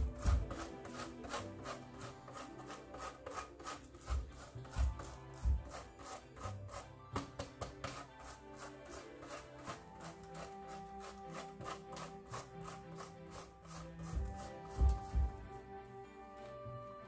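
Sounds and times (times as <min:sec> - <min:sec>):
dough grated on metal grater: 0:00.0 - 0:15.5.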